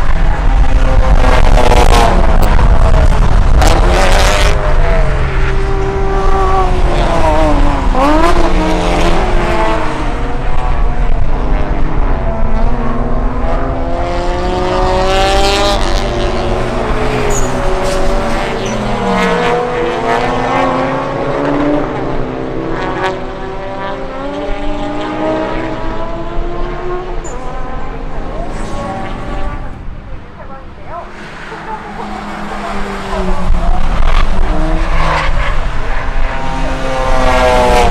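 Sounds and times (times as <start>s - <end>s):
race car engines revving: 0.0s - 37.9s.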